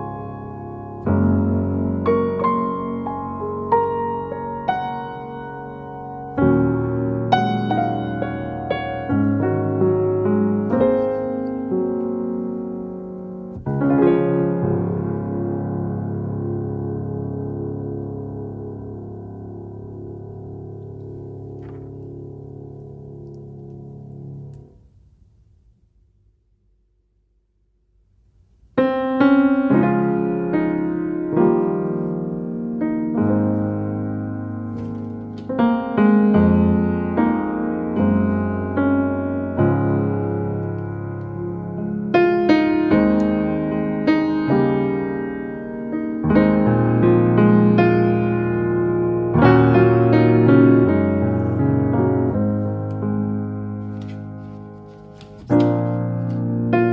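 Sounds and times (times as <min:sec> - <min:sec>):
slow piano chords: 0:00.0 - 0:25.3, 0:28.5 - 0:56.9.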